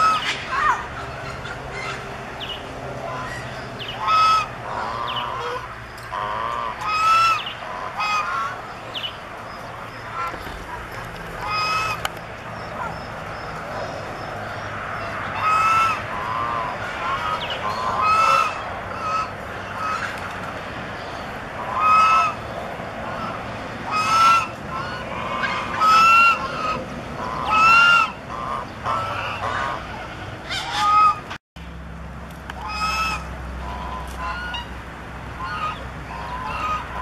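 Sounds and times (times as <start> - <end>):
geese honking: 0.0 - 31.3, 32.6 - 37.0.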